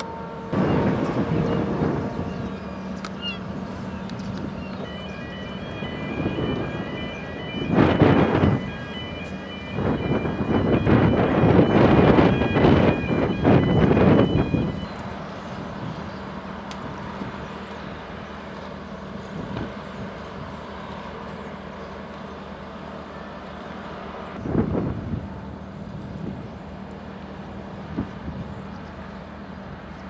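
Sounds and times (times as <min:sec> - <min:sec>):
ship engine hum: 0:00.0 - 0:30.0.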